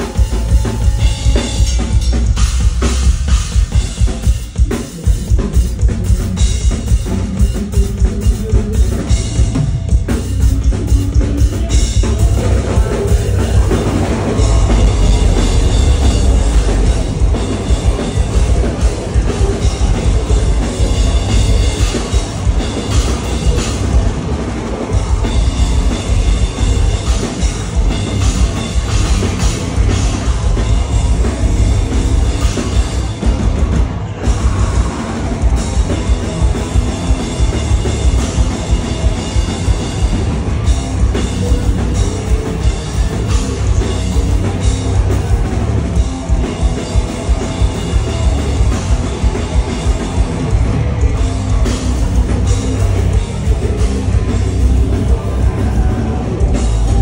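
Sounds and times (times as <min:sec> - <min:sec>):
fast dense drumming: 0:00.0 - 0:57.0
metal band playing live: 0:00.0 - 0:57.0.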